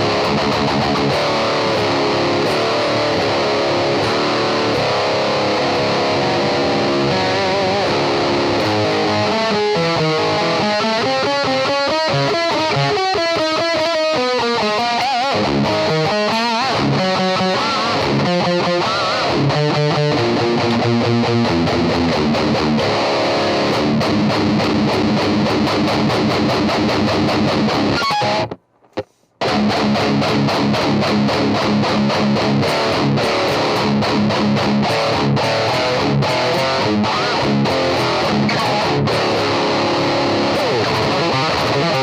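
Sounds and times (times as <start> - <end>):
distorted electric guitar riffing: 0.0 - 42.0.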